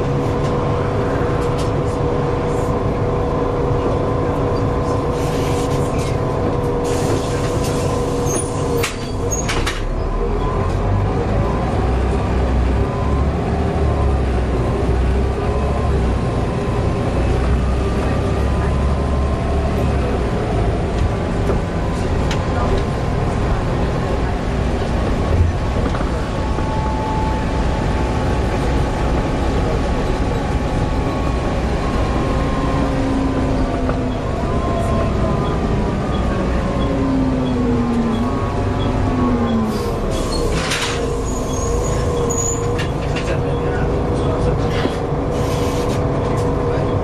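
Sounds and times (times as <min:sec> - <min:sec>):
bus diesel engine running: 0:00.0 - 0:47.0.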